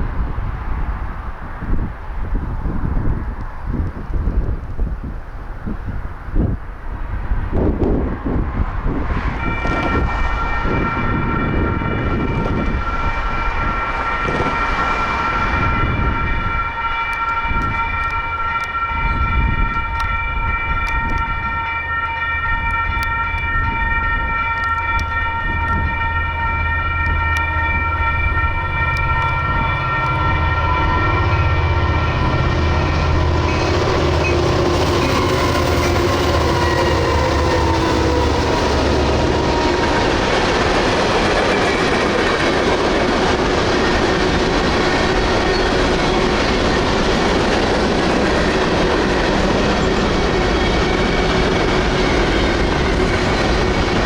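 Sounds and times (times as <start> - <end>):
diesel locomotives rumbling: 0.0 - 54.0
crossing warning bell ringing: 8.9 - 54.0.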